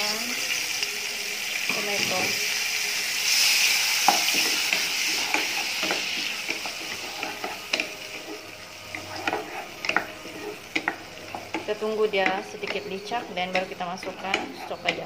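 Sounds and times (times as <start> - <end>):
tomatoes sizzling in a pot: 0.0 - 15.0.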